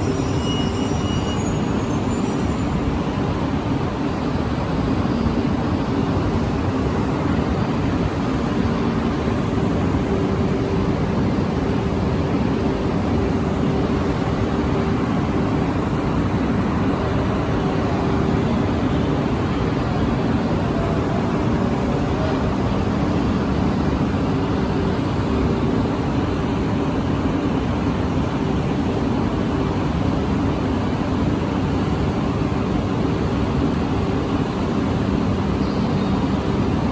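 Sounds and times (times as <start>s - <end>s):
train running drone: 0.0s - 36.9s.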